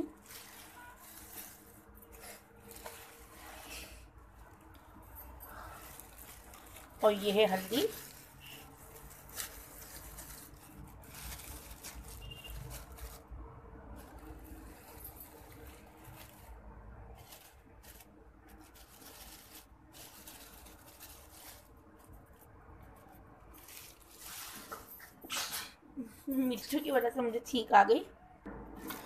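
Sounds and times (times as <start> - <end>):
plastic bag crinkling: 0.0 - 25.2.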